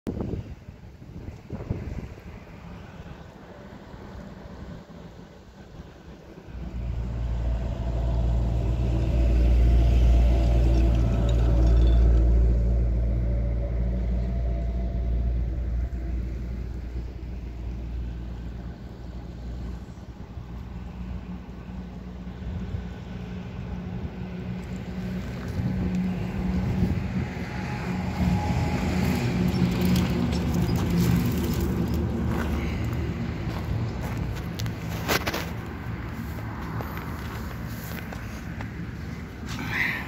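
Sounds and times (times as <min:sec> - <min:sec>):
low engine rumble: 0:00.2 - 0:40.0.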